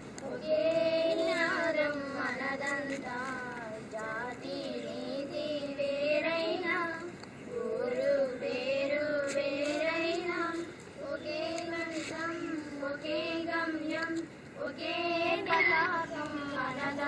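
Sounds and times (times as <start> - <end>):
children and women singing: 0.2 - 17.0.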